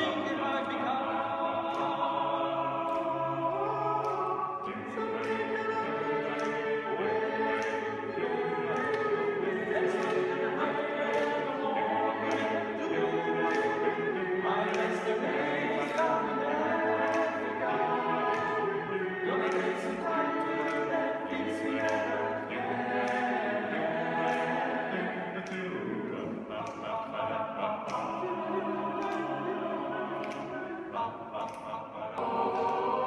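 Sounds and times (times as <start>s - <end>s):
male choir singing a cappella: 0.0s - 33.0s.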